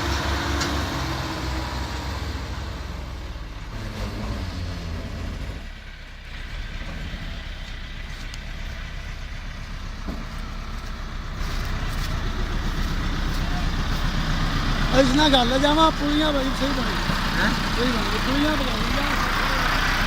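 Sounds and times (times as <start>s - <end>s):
tractor diesel engines rumbling: 0.0s - 20.0s.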